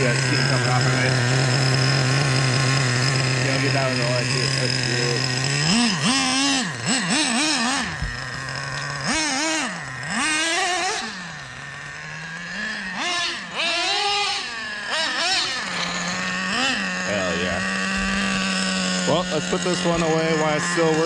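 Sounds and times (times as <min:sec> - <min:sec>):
model truck engine revving: 0:00.0 - 0:21.0.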